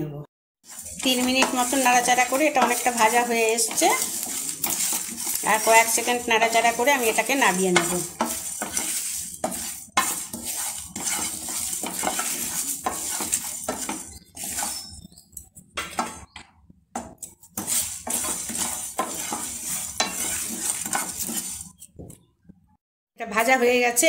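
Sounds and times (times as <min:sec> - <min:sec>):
wooden spatula scraping a pan: 0:00.6 - 0:16.4, 0:17.0 - 0:22.1.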